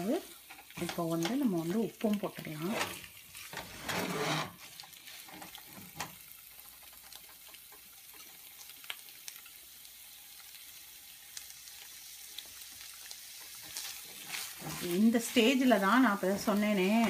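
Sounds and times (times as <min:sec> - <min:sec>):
spatula stirring in pan: 0:00.0 - 0:09.5, 0:12.2 - 0:17.0
faint sizzle of frying: 0:00.0 - 0:17.0.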